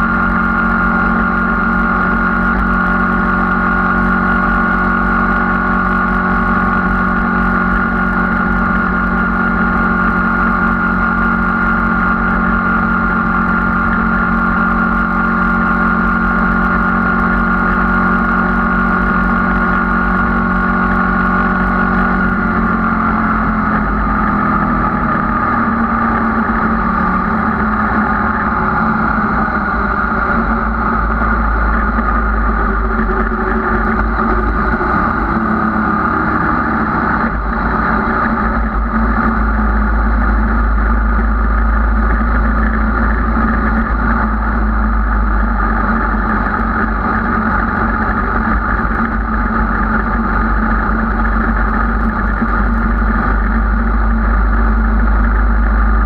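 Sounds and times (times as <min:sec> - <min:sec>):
low wind rumble: 0:00.0 - 0:56.0
motorcycle engine running: 0:00.0 - 0:56.0.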